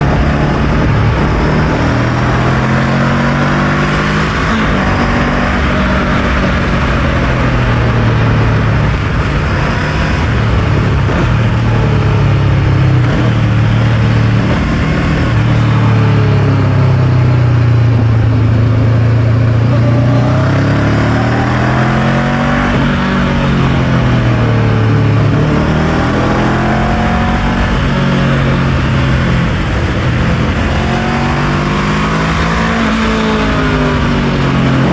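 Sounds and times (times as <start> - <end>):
motorcycle engine running: 0.0 - 34.9
wind rush: 0.0 - 34.9.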